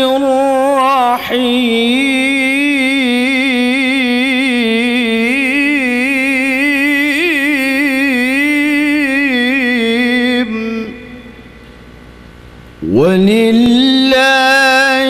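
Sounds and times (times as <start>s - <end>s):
man reciting melodically: 0.0s - 11.7s, 12.8s - 15.0s.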